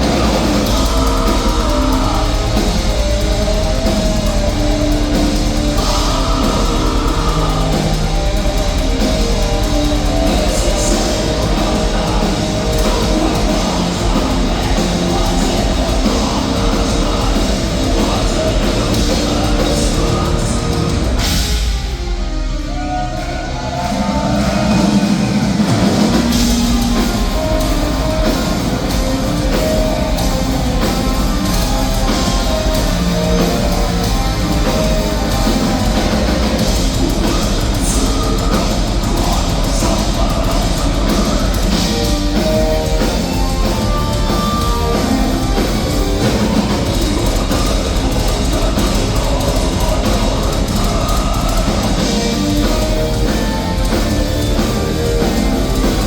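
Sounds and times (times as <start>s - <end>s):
distorted electric guitars: 0.0s - 56.0s
drum kit: 0.0s - 56.0s.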